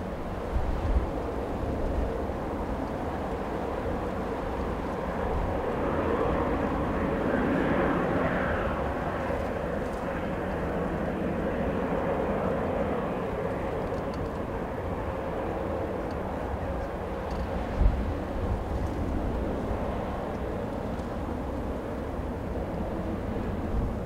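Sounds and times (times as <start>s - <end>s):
jet engines droning: 0.0s - 24.0s.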